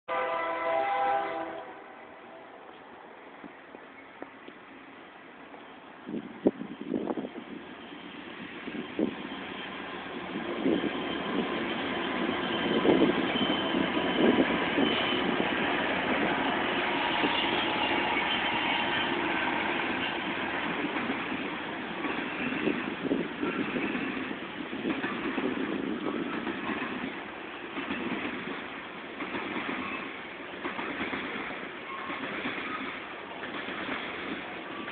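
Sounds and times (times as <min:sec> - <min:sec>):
freight train rumbling on rails: 0:00.1 - 0:34.9.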